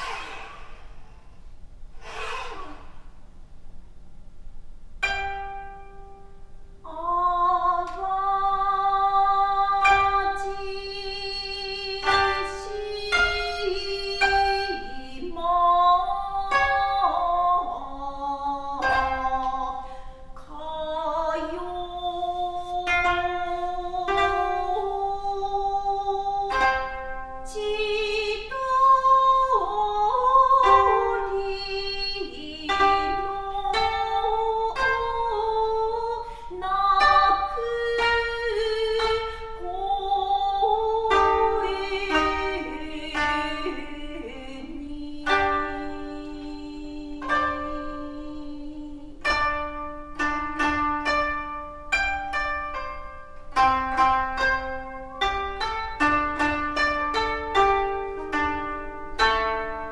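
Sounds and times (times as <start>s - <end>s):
koto duet plucked strings: 5.0s - 59.9s.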